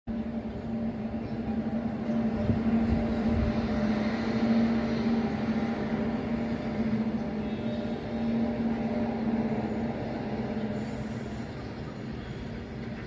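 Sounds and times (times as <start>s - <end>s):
electric locomotive humming: 0.1s - 13.0s
train wheels rumbling on rails: 0.1s - 13.0s.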